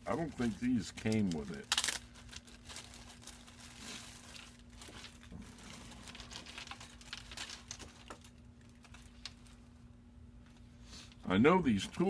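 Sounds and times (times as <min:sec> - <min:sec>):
plastic bag crinkling: 0:00.0 - 0:09.9.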